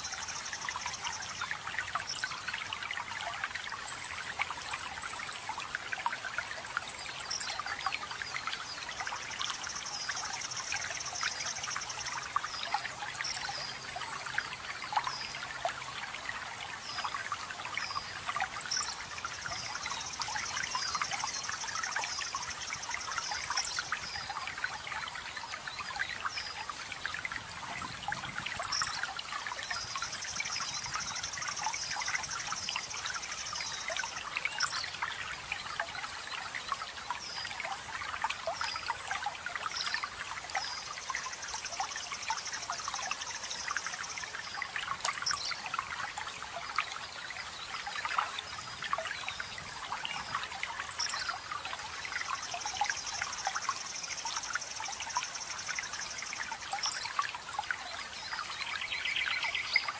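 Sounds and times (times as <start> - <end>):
water trickling over rocks: 0.0 - 59.9.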